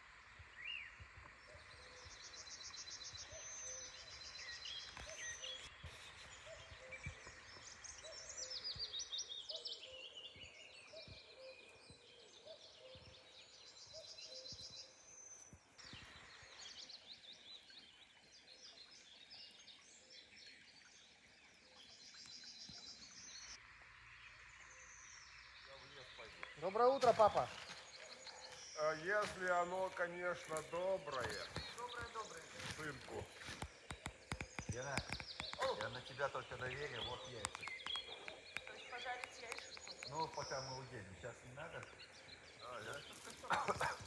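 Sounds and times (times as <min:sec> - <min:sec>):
faint songbirds singing: 0:00.0 - 0:44.0
soft outdoor hiss: 0:00.0 - 0:44.0.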